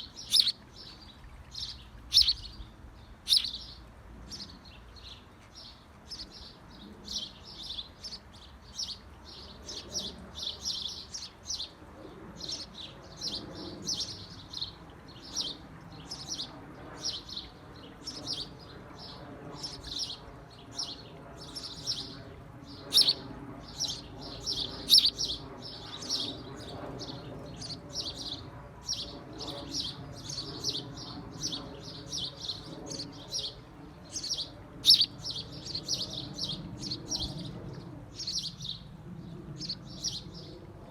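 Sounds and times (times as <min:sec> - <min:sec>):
small birds chirping: 0:00.0 - 0:11.7, 0:12.4 - 0:37.6, 0:38.2 - 0:38.8.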